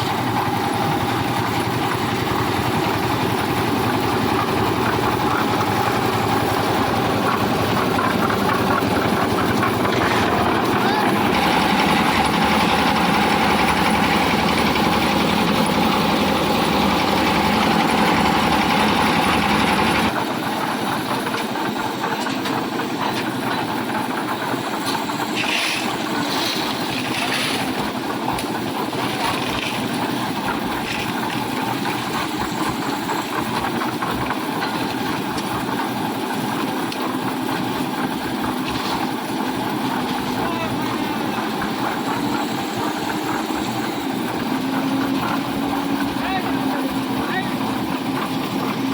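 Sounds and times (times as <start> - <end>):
concrete mixer engine running: 0.0 - 48.9
thin machine noise: 0.0 - 48.9.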